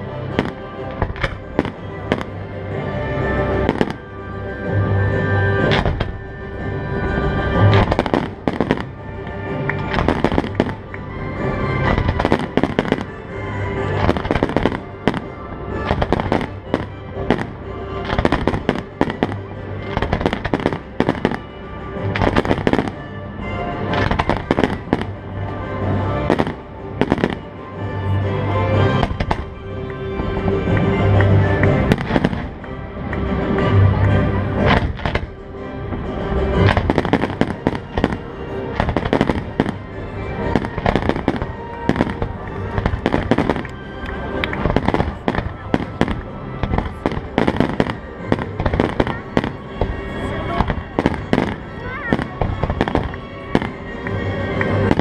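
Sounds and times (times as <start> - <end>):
music: 0.0 - 55.0.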